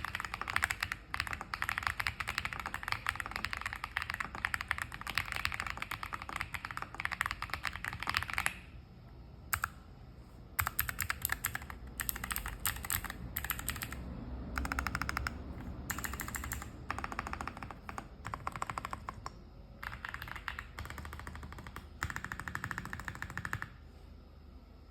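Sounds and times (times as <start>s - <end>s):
mechanical keyboard typing: 0.0s - 8.7s, 9.5s - 9.8s, 10.6s - 23.8s.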